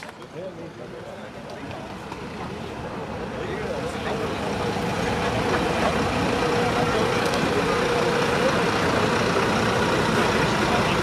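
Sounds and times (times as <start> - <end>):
fire engine diesel engine running: 0.0 - 11.0.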